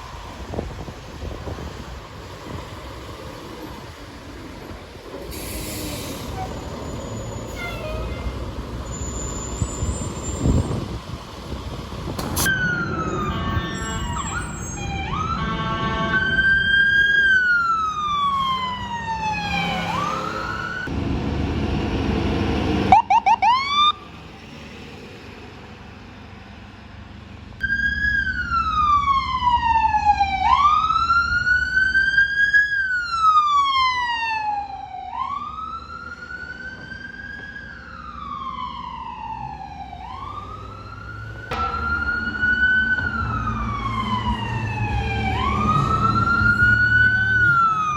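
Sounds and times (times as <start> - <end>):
emergency sirens yelping and wailing: 0.0 - 24.7, 27.6 - 47.9
vehicle engines and traffic rumble: 0.0 - 47.9.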